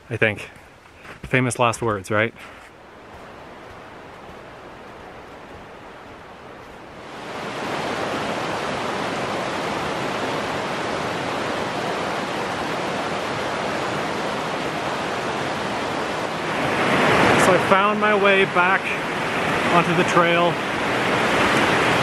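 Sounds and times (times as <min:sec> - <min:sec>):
creek rushing over rocks: 0:01.0 - 0:22.0.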